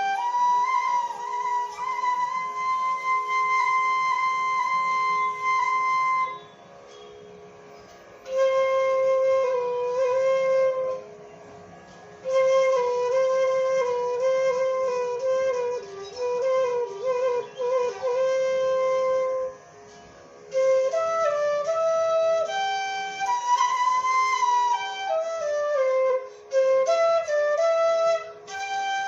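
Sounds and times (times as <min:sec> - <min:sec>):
flute playing slow melody: 0:00.0 - 0:07.6, 0:08.2 - 0:29.0.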